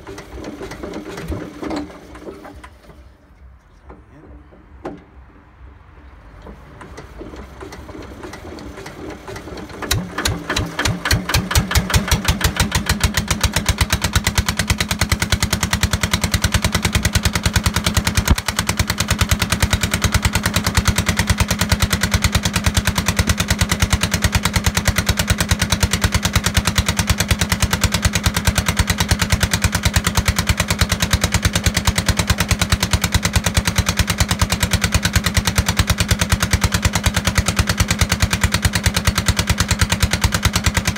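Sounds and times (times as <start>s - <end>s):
diesel engine starting and running: 0.0s - 40.9s.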